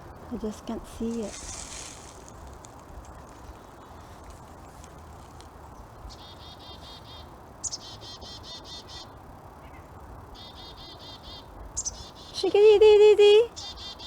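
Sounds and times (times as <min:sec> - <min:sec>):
songbird trilling: 0:00.4 - 0:12.7, 0:13.5 - 0:14.0.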